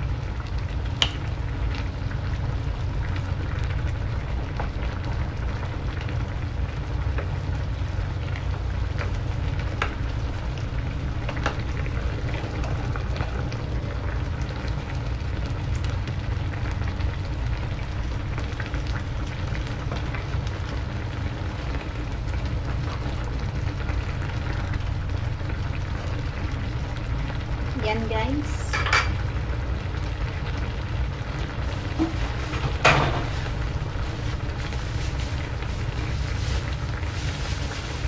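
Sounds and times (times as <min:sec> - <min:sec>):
soup boiling in metal pan: 0:00.0 - 0:38.0.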